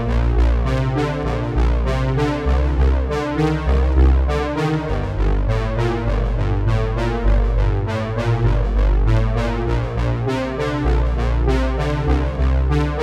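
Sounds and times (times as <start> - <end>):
synthesizer and electric piano music: 0.0 - 13.0.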